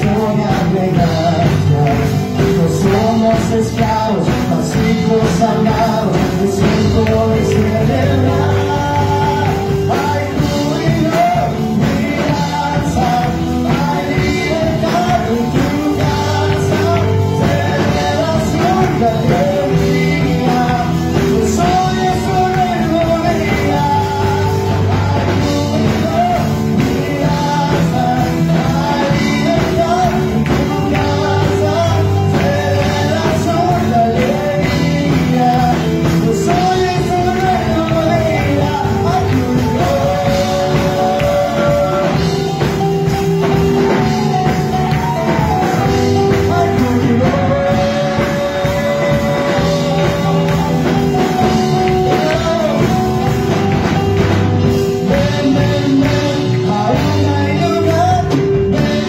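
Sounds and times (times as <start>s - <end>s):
women singing: 0.0s - 53.4s
drum kit: 0.0s - 59.0s
guitar: 0.0s - 59.0s
keyboard: 0.0s - 59.0s.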